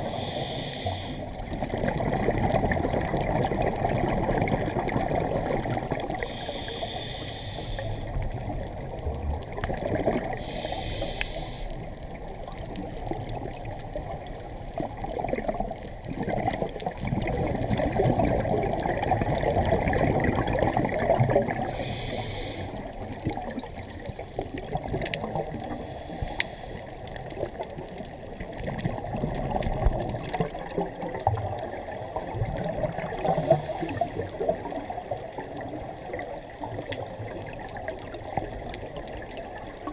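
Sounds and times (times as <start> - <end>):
underwater bubbling and crackling: 0.0 - 39.9.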